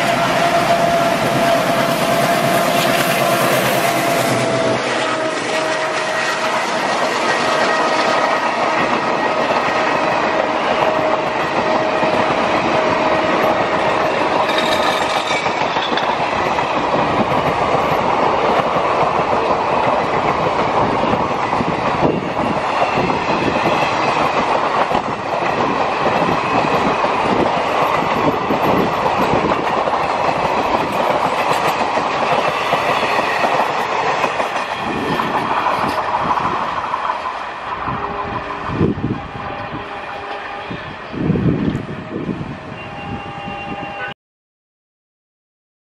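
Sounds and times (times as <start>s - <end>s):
train wheels clattering on track: 0.0s - 40.7s.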